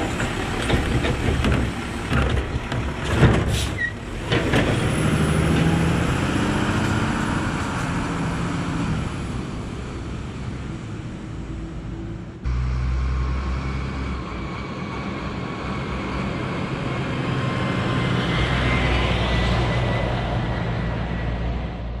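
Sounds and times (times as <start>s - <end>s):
garbage truck diesel engine: 0.0s - 21.7s
distant truck engine drone: 0.0s - 22.0s.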